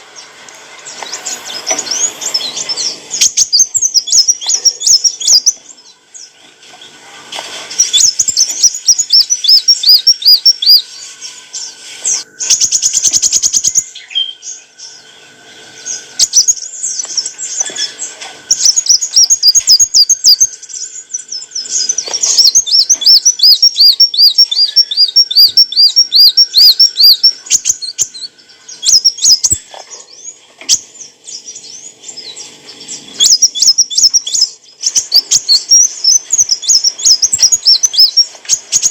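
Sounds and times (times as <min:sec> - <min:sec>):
buzzy bird trill: 0:00.0 - 0:07.0, 0:07.6 - 0:38.9.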